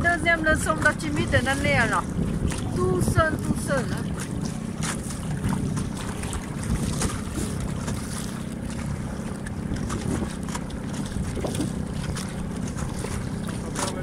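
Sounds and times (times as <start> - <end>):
water washing against boat: 0.0 - 14.0
wind buffeting microphone: 0.0 - 14.0.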